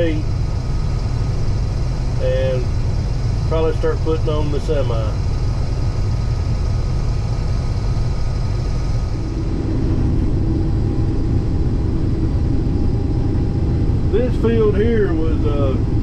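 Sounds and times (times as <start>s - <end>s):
combine harvester rumbling: 0.0s - 16.0s
faint steady hum: 0.0s - 16.0s.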